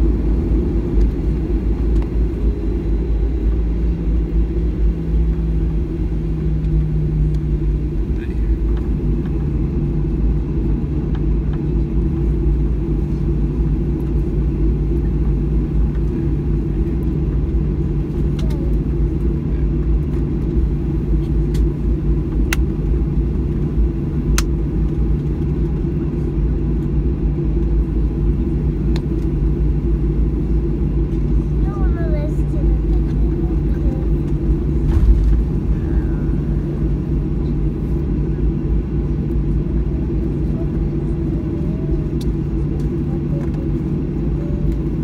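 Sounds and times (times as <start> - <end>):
jet engines droning in cabin: 0.0 - 45.0.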